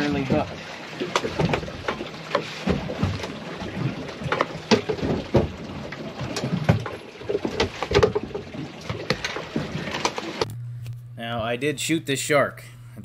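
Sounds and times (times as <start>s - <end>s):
water slapping against boat: 0.0s - 10.5s.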